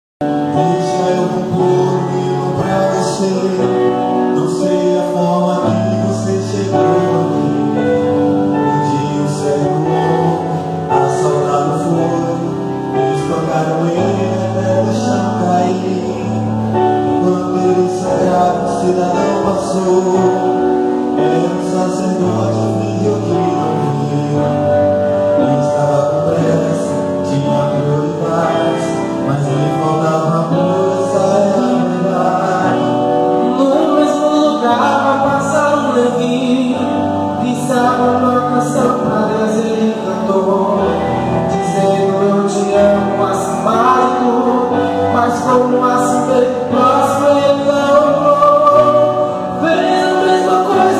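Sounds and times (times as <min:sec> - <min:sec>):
instrumental backing with bass: 0:00.2 - 0:50.9
men singing gospel song: 0:00.4 - 0:07.9, 0:08.5 - 0:50.9.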